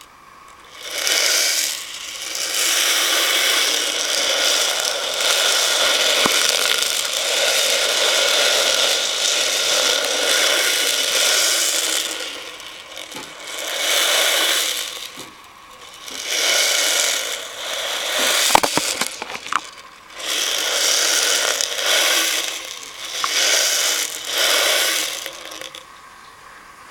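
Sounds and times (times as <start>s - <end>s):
beads rattling in a plastic bowl: 0.0s - 25.9s.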